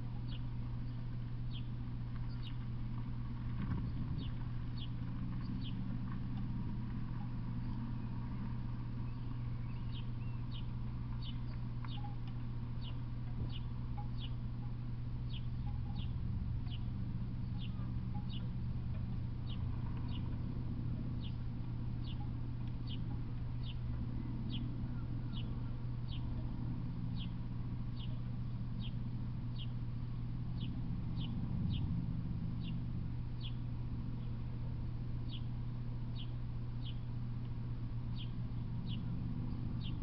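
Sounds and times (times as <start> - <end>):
bird chirping: 0.0 - 2.7, 3.6 - 29.8, 30.5 - 32.0, 32.6 - 34.4, 35.2 - 35.5, 36.1 - 37.1, 38.1 - 40.0
low hum: 0.0 - 40.0.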